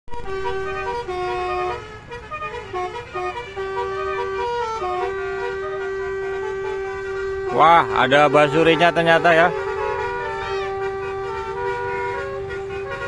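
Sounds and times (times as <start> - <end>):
melodic air horn playing a tune: 0.1 - 13.0.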